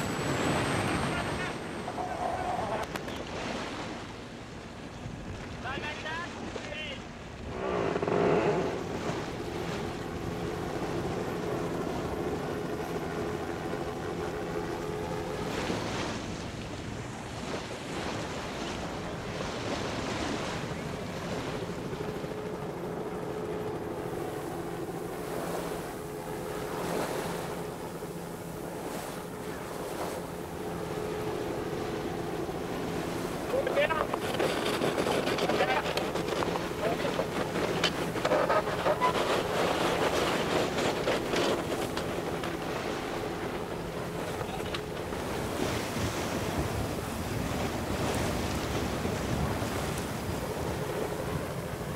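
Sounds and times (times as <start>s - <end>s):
water rushing past boat: 0.0s - 51.9s
engine hum: 7.1s - 51.9s.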